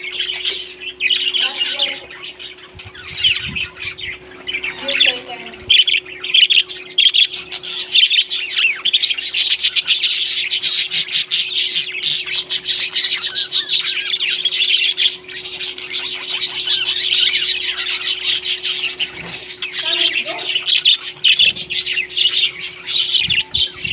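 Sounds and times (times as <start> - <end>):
parrots chirping and chattering: 0.0 - 23.9.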